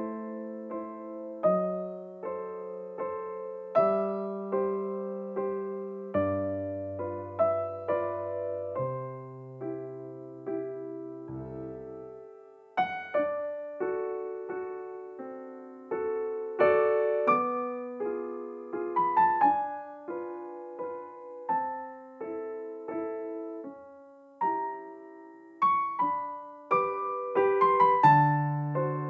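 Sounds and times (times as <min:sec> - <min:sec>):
slow gentle piano piece: 0:00.0 - 0:29.0.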